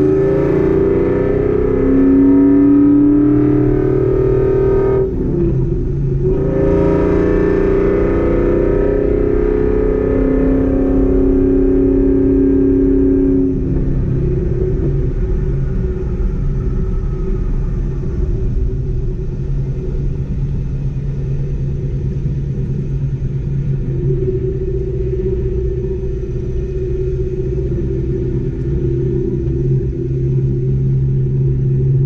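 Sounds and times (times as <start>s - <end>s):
car engine drone: 0.0s - 32.0s
road rumble: 0.0s - 32.0s.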